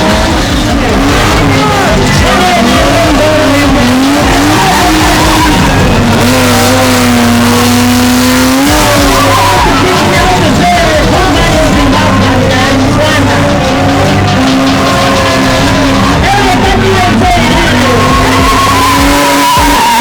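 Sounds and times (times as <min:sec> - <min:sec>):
car engine at high revs: 0:00.0 - 0:20.0
tyre screech: 0:00.0 - 0:20.0.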